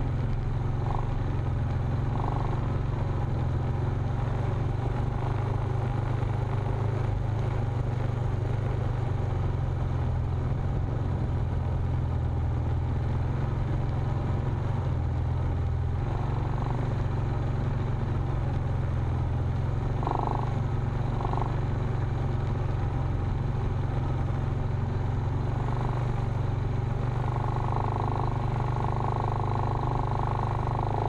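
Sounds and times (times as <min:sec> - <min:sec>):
off-road vehicle engine drone: 0:00.0 - 0:31.0.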